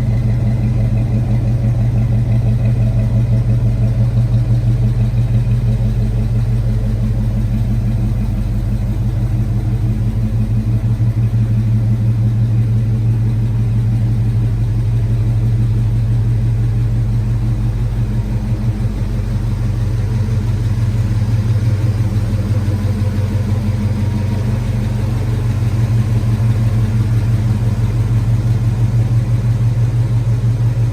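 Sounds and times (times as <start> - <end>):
truck engine idling: 0.0 - 30.9.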